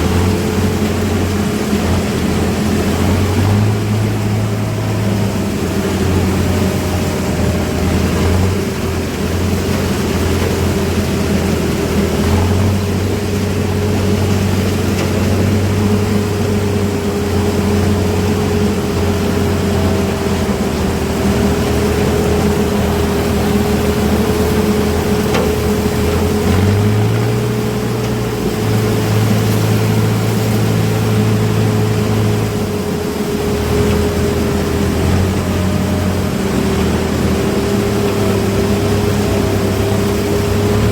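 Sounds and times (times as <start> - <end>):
constant machine whine: 0.0 - 40.9
diesel engines droning: 0.0 - 40.9.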